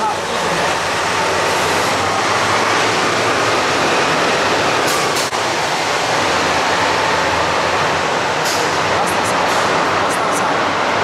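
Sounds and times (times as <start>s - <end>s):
traffic in tunnel: 0.0s - 11.0s.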